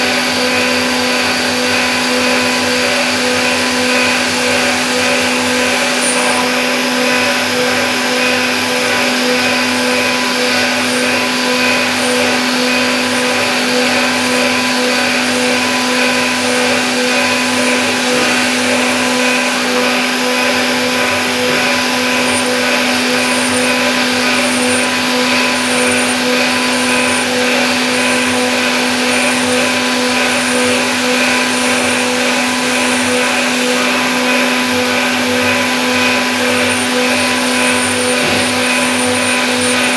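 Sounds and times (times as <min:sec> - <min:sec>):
metal cutting noise: 0:00.0 - 0:39.9
milling machine spindle whine: 0:00.0 - 0:39.9.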